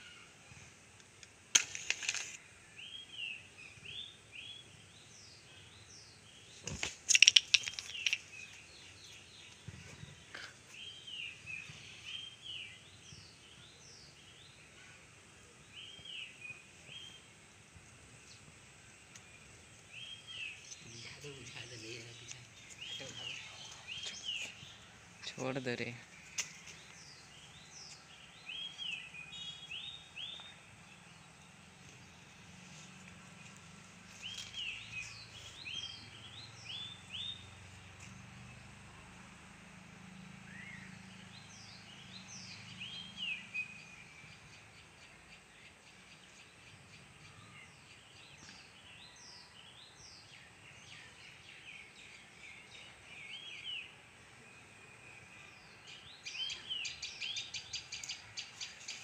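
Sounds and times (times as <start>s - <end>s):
birds chirping: 0.0s - 59.0s
faint background noise: 0.0s - 59.0s.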